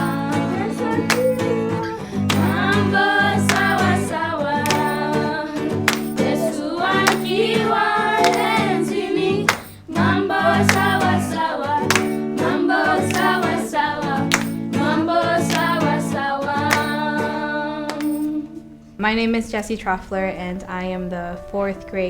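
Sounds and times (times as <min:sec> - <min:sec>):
song with singing and beat: 0:00.0 - 0:18.6.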